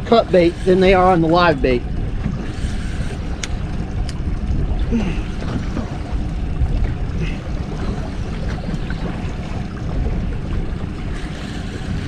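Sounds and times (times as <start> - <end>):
water washing against boat hull: 0.0 - 12.0
wind buffeting microphone: 0.0 - 12.0.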